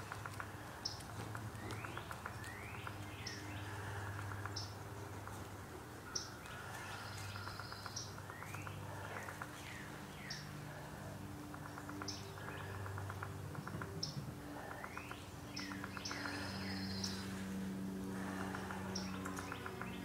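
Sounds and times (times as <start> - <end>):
birds chirping and trilling: 0.0 - 20.0
low hum: 0.0 - 20.0.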